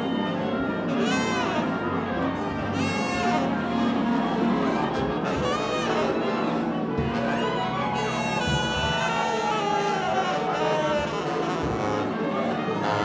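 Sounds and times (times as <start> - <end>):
piano: 0.0 - 13.0
saxophones: 0.0 - 13.0
trombones: 0.0 - 13.0
trumpets: 0.0 - 13.0.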